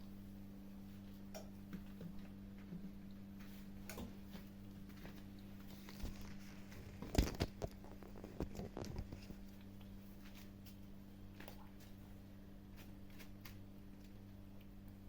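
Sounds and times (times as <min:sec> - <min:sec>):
faint steady hum: 0:00.0 - 0:15.0
kittens chewing and crunching food: 0:00.1 - 0:15.0.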